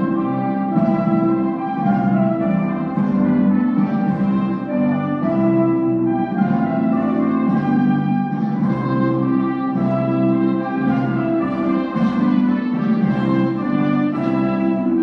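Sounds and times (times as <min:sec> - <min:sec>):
orchestral brass melody: 0:00.0 - 0:15.0.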